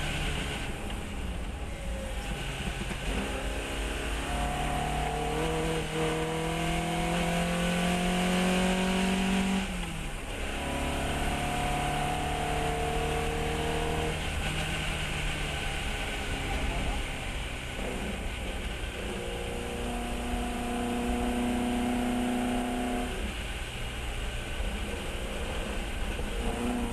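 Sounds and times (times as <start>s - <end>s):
race car engine accelerating: 0.0s - 23.7s, 24.5s - 26.9s.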